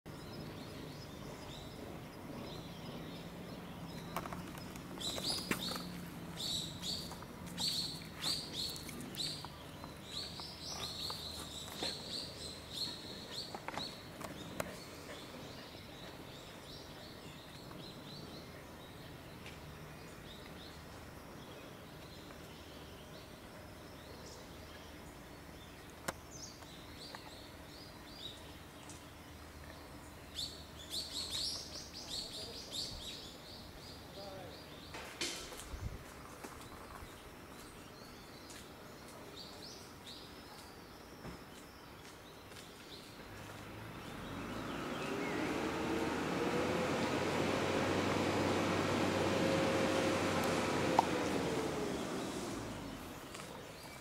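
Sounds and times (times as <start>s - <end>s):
birds chirping: 0.1s - 54.0s
outdoor background hum: 0.1s - 54.0s.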